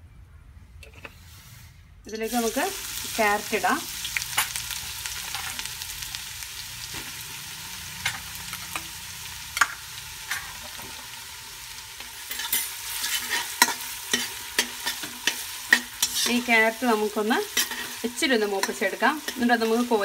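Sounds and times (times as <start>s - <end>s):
carrot sizzling in hot oil: 2.1s - 20.0s.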